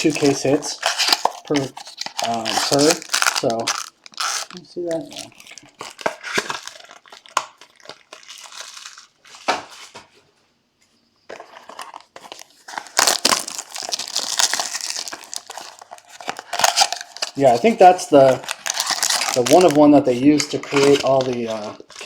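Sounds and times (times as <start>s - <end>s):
plastic packaging crinkling: 0.0s - 10.0s, 11.3s - 22.0s.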